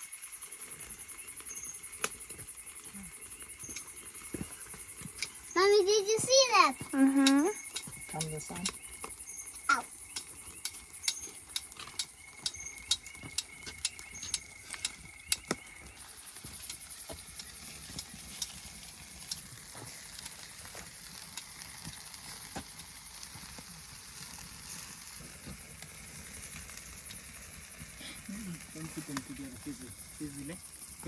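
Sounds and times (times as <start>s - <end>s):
insect chirring: 0.0s - 31.0s.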